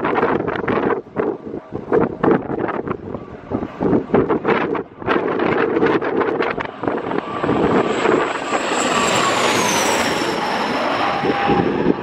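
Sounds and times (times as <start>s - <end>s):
turboprop plane passing overhead: 0.0s - 12.0s
wind buffeting microphone: 0.0s - 12.0s.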